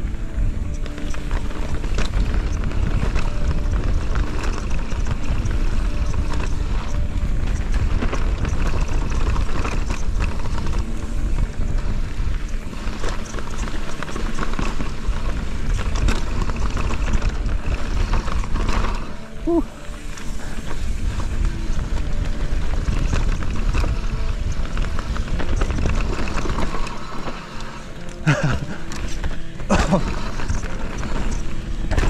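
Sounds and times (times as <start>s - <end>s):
bike chain and frame rattling: 0.0s - 32.0s
tyres on dirt: 0.0s - 32.0s
wind buffeting microphone: 0.0s - 32.0s.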